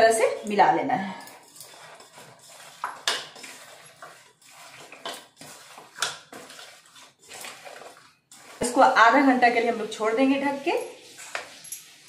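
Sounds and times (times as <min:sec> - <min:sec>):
chicken stirred in marinade: 0:00.0 - 0:12.0.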